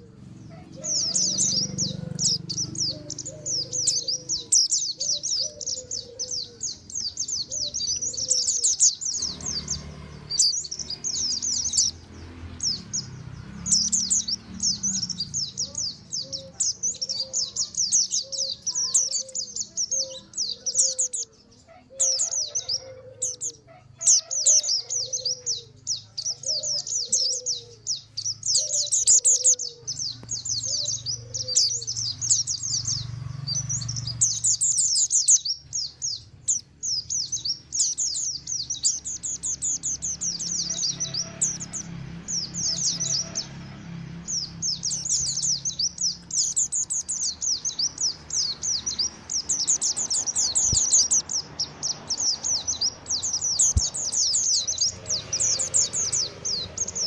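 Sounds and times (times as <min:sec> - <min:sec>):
birds twittering: 0:00.0 - 0:57.0.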